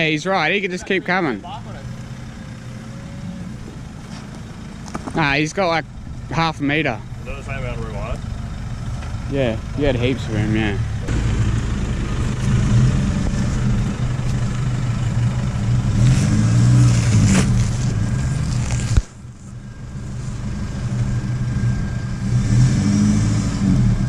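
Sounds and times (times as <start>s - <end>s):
engine working under load: 0.0s - 24.0s.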